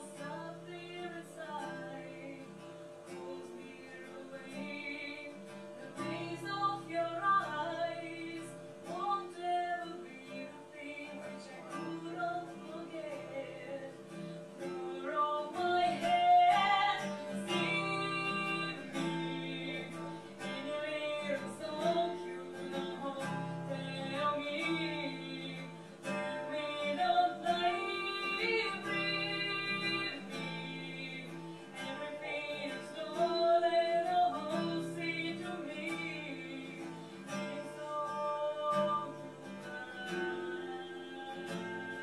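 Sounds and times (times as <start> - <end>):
strummed acoustic guitar: 0.0 - 42.0
woman singing: 0.0 - 42.0.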